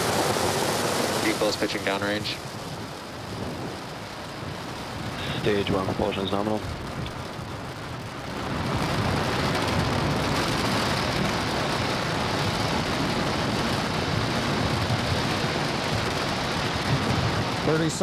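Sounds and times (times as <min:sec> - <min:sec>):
rocket engines crackling rumble: 0:00.0 - 0:18.0.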